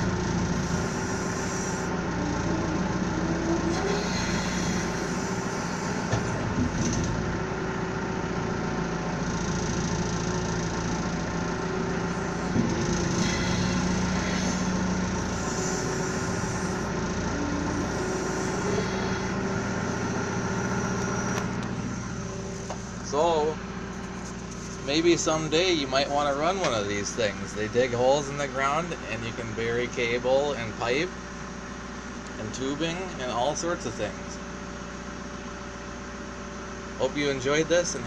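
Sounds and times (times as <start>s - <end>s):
backhoe engine running: 0.0s - 38.0s.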